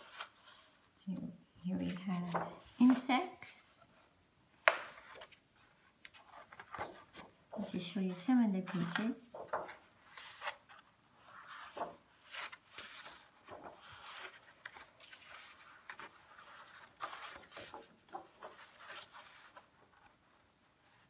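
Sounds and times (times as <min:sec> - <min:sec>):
book pages turning: 0:00.0 - 0:01.0, 0:01.7 - 0:03.4, 0:04.6 - 0:21.0.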